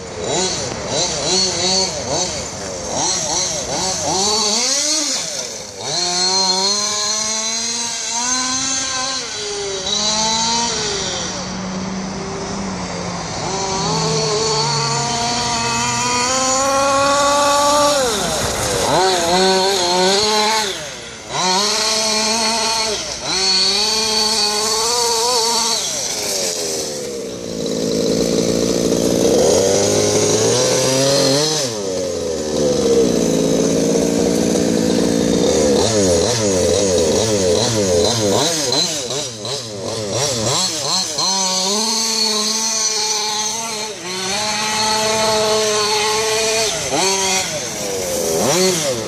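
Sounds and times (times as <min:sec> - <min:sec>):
two-stroke engine revving: 0:00.0 - 0:49.0.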